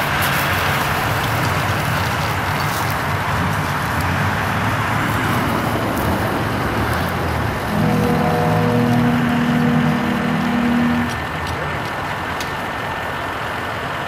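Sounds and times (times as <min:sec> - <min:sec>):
constant rushing noise: 0:00.0 - 0:14.0
low engine hum: 0:00.0 - 0:14.0.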